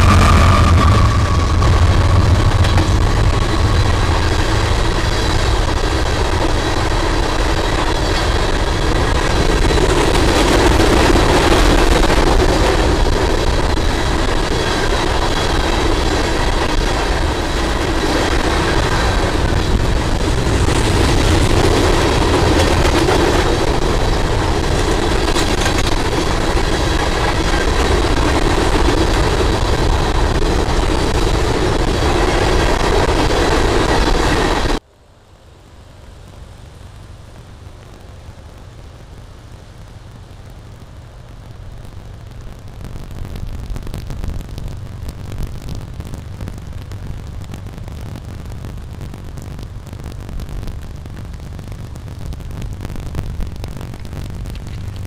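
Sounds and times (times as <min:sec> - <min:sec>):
freight train wheels on rails: 0:00.0 - 0:35.2, 0:35.8 - 0:55.0.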